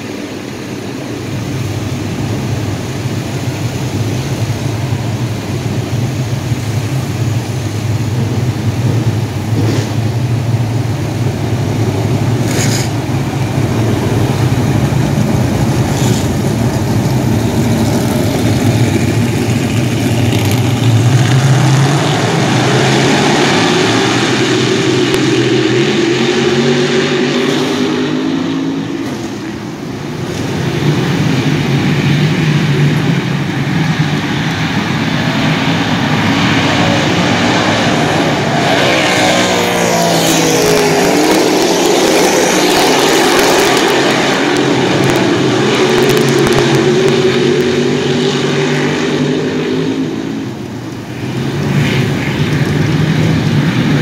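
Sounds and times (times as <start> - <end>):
race car engines: 0.0 - 54.0.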